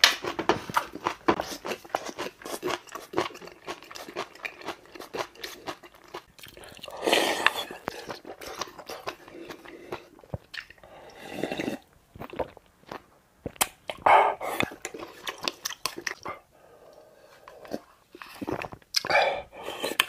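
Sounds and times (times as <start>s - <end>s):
man chewing food: 0.0s - 20.0s
mouth clicks and smacks: 0.1s - 10.8s, 11.5s - 16.4s, 17.5s - 20.0s.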